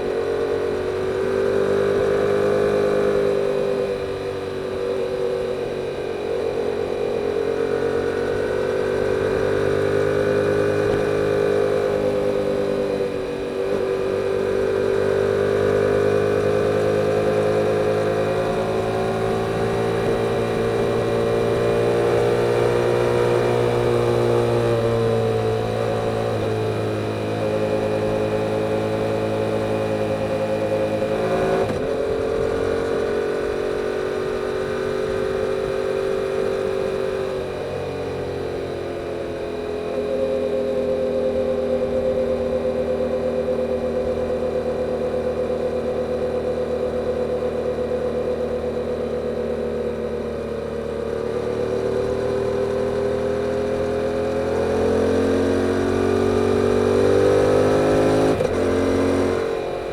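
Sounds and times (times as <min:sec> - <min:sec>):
motorcycle engine under way: 0:00.0 - 0:59.9.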